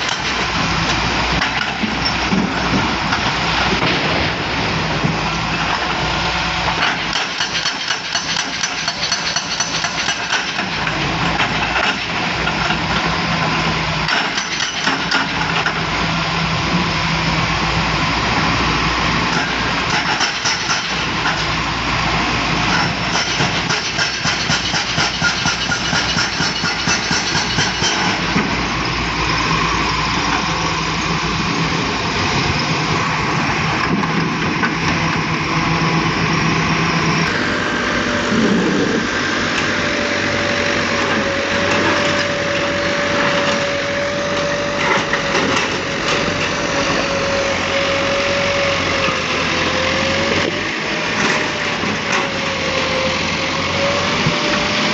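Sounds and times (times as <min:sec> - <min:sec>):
excavator diesel engine running: 0:00.0 - 0:54.9
steady whine: 0:09.6 - 0:54.9.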